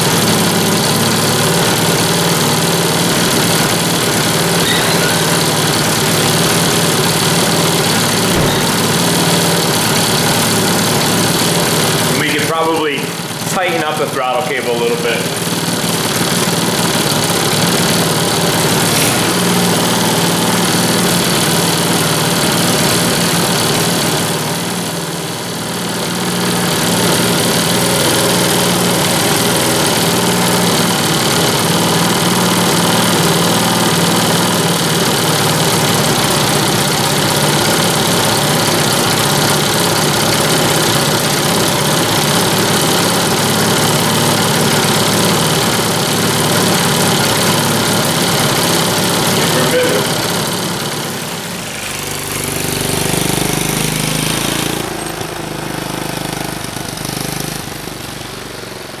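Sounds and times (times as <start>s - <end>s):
quad engine idling: 0.0s - 59.0s.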